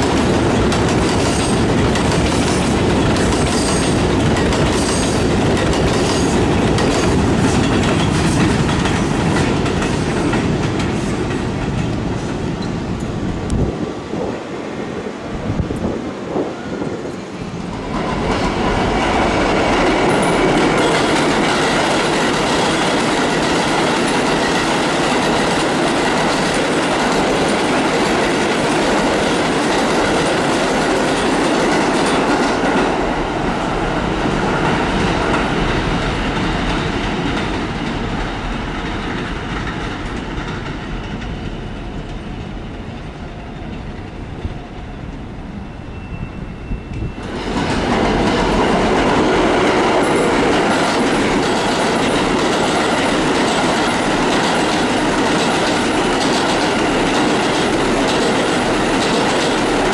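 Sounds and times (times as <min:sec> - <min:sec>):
subway train wheels on rails: 0:00.0 - 0:59.9.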